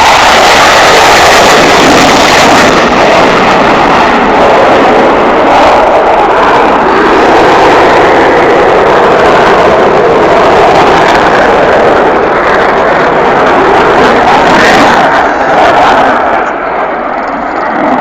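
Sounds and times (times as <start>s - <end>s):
jet engine noise in flight: 0.0s - 18.0s.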